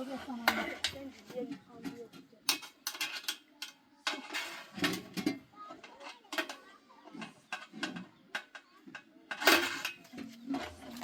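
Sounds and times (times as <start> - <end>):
low murmured voices: 0.0 - 11.0
irregular clicks and knocks: 0.3 - 11.0.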